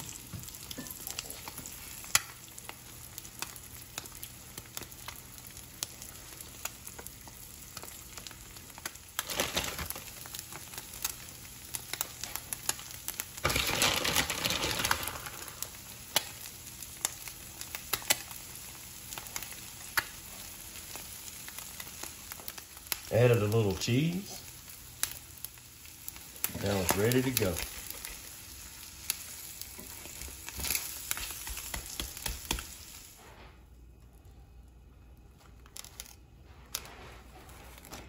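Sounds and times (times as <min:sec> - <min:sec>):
egg sizzling in oil: 0:00.0 - 0:33.2.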